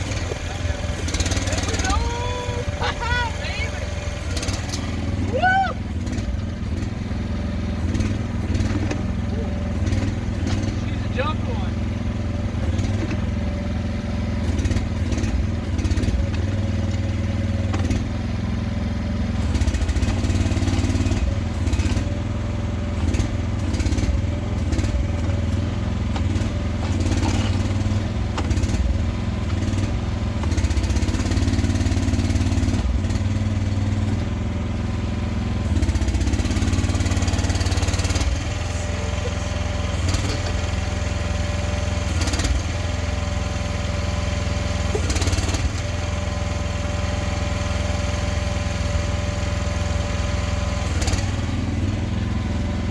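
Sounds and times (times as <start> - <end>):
mini excavator engine digging: 0.0 - 52.9.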